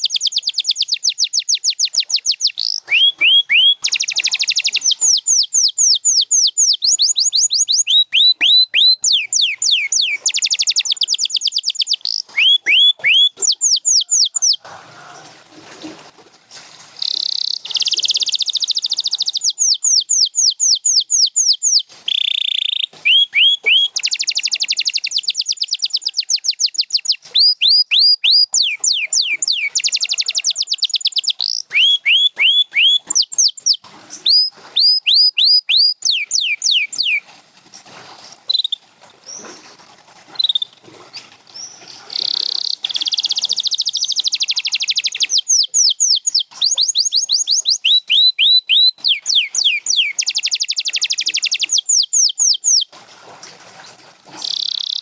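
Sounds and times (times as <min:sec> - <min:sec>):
canary singing trills: 0:00.0 - 0:15.3, 0:17.0 - 0:37.2, 0:40.4 - 0:52.9, 0:54.4 - 0:55.0.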